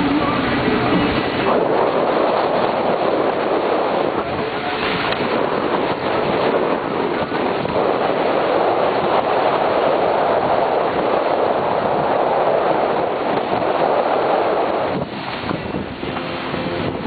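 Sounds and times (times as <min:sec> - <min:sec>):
water running past hulls: 0:00.0 - 0:17.0
wind on the microphone: 0:00.0 - 0:17.0.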